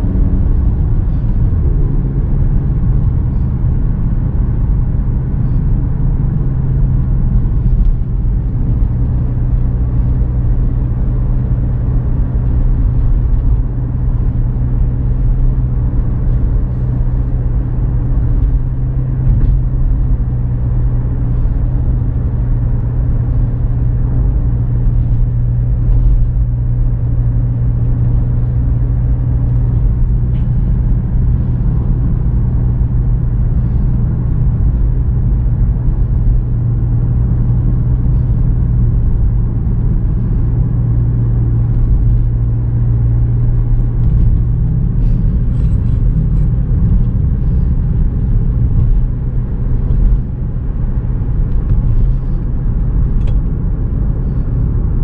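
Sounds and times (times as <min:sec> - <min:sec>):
car engine drone inside cabin: 0:00.0 - 0:55.0.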